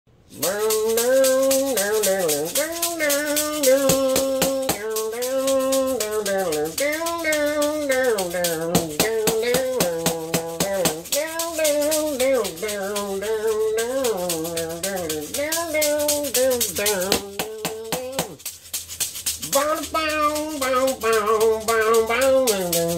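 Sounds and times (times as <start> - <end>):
maracas shaken: 0.1 - 22.9.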